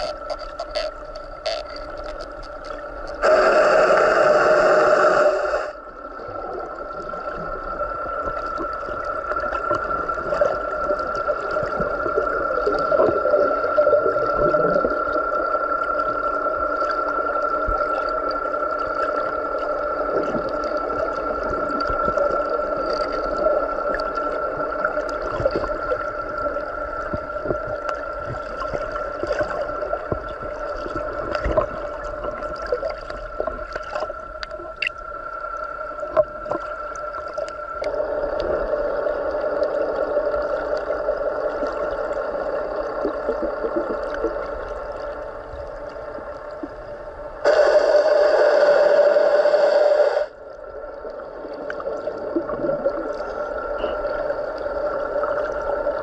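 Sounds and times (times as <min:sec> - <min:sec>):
two-tone underwater hum: 0:00.0 - 0:56.0
water noise: 0:00.0 - 0:56.0.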